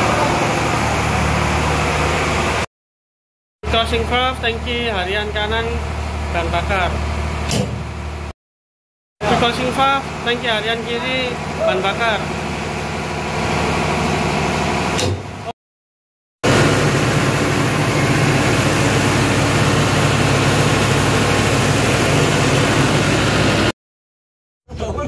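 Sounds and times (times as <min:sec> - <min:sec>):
diesel generator running: 0:00.0 - 0:02.7, 0:03.6 - 0:08.3, 0:09.2 - 0:15.5, 0:16.4 - 0:23.7
engine-room machinery noise: 0:00.0 - 0:02.7, 0:03.6 - 0:08.4, 0:09.2 - 0:15.6, 0:16.4 - 0:23.8.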